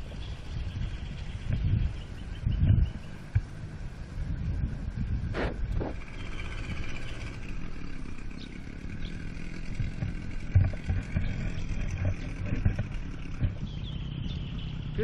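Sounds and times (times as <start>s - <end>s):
small outboard motor running: 0.0s - 15.0s.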